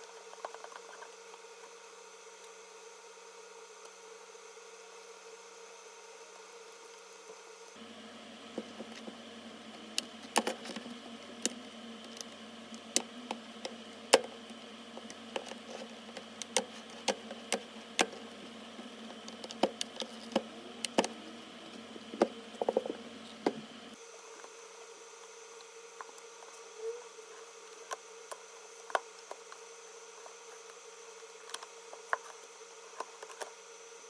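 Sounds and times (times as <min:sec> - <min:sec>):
electric device humming: 0:00.0 - 0:34.0.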